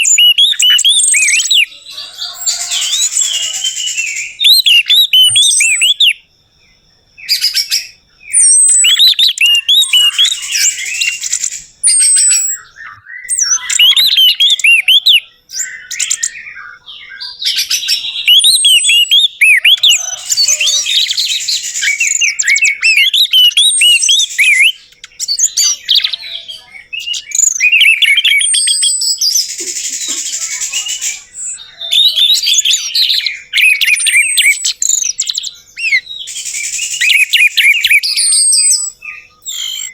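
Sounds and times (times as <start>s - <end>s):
thrush singing whistled song: 0.0s - 39.9s.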